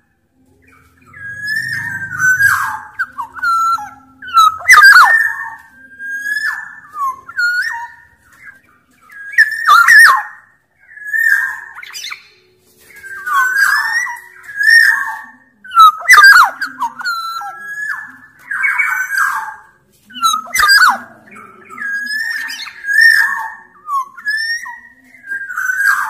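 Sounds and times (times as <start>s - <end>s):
oriole fluty whistled song: 0.0s - 26.0s.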